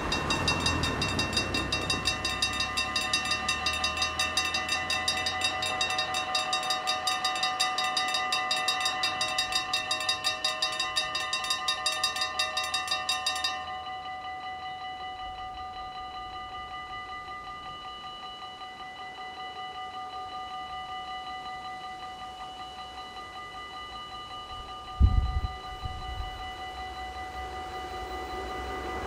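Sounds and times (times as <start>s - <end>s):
railroad crossing bells ringing: 0.0s - 29.0s.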